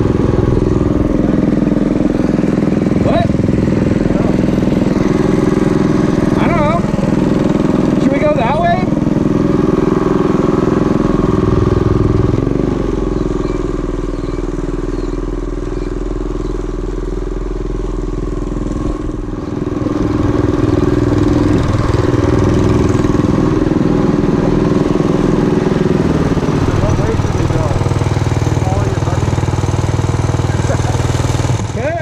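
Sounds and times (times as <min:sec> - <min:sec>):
small motorbike engine revving: 0:00.0 - 0:32.0.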